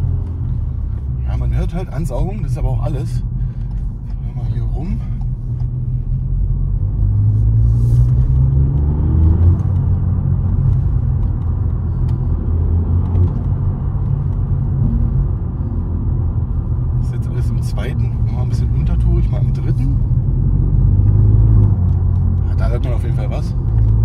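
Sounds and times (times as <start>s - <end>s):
car engine drone from cabin: 0.0s - 24.0s.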